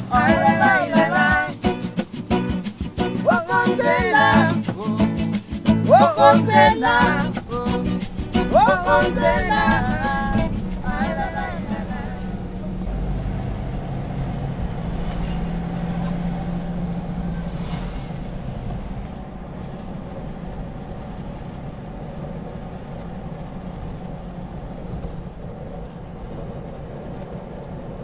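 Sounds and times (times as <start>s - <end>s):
vehicle engine and road noise: 4.6s - 28.0s.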